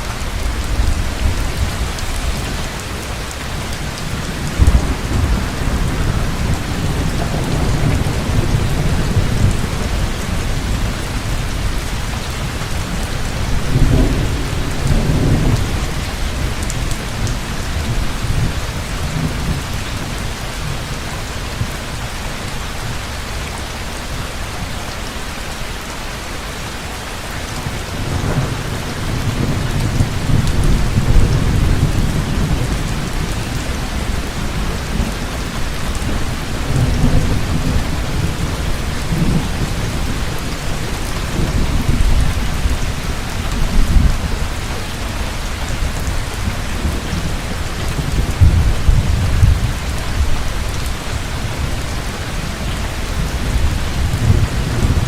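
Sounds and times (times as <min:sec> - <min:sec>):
heavy rain falling: 0:00.0 - 0:55.0
rolling thunder: 0:00.4 - 0:19.8, 0:27.6 - 0:44.6, 0:45.8 - 0:52.0, 0:52.7 - 0:55.0.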